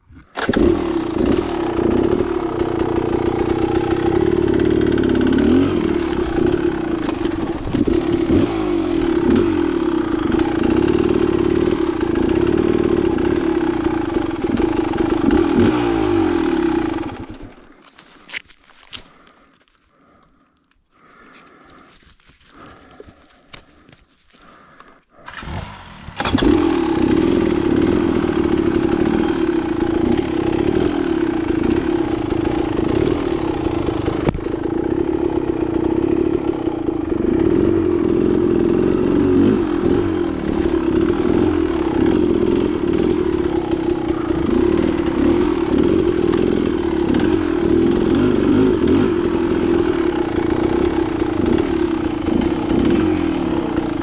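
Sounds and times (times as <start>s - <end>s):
dirt bike engine running: 0.4s - 17.8s, 24.4s - 54.0s.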